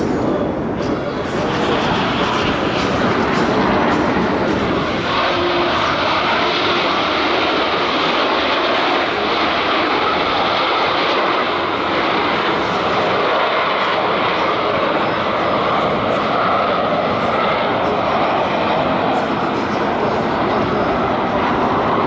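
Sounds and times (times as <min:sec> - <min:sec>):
jet engines in flight: 0:00.0 - 0:22.0.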